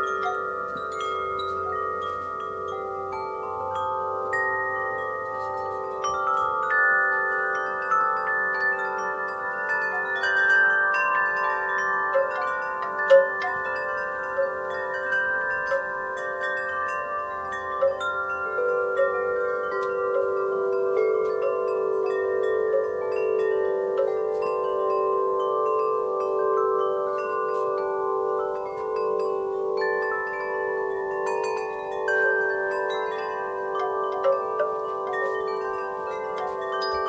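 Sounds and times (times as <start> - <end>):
metal wind chimes ringing: 0.0 - 37.0.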